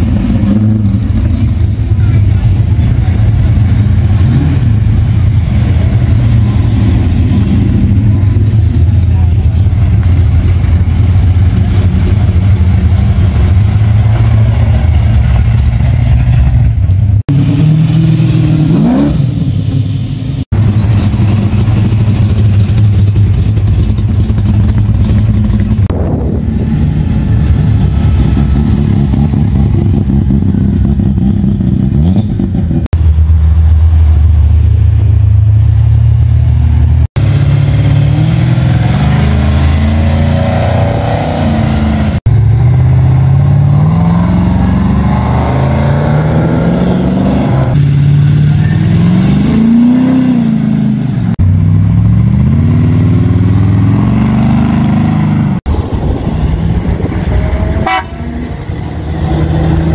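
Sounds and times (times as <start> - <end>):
car engines idling and revving: 0.0 - 59.9.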